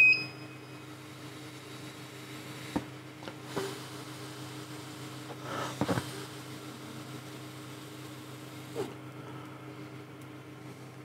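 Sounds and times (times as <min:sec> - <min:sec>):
laser cutter equipment humming: 0:00.0 - 0:11.0.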